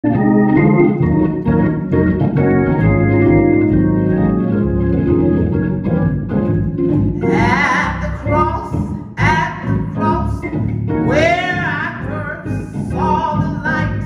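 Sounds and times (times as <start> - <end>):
organ chords: 0.0 - 14.0.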